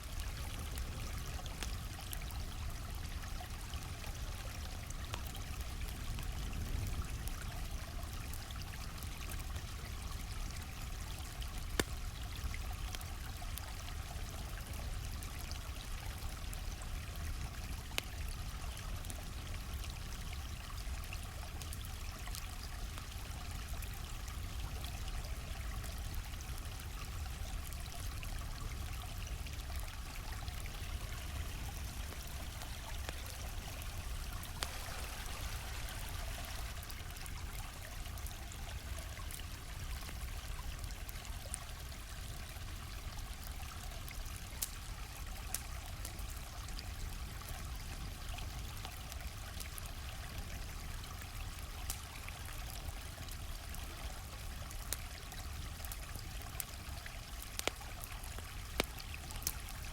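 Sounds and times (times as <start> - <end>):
campfire crackling and popping: 0.0 - 59.9
stream rushing and trickling: 0.0 - 59.9.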